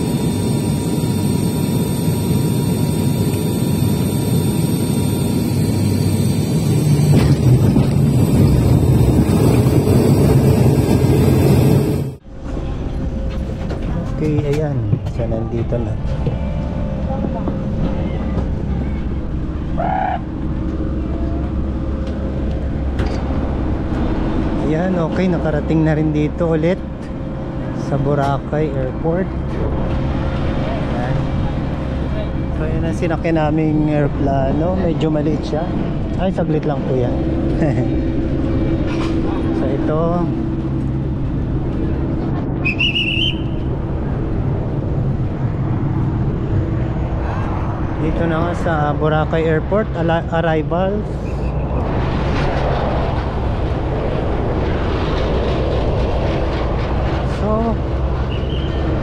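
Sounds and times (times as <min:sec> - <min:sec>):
small plane engines running: 0:00.0 - 0:59.0.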